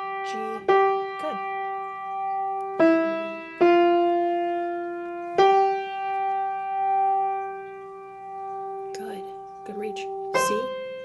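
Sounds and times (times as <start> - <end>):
keyboard playing single notes: 0.0 - 11.0.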